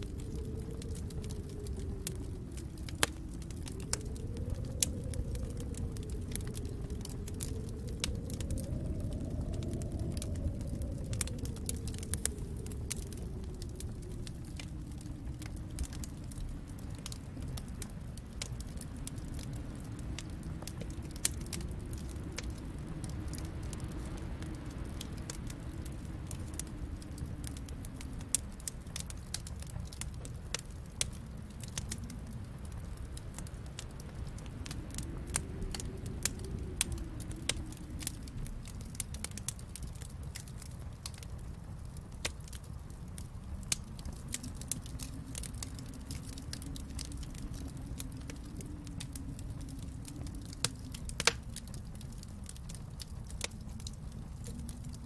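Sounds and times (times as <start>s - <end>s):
low rumble: 0.0s - 55.0s
wood fire crackling and popping: 0.0s - 55.0s.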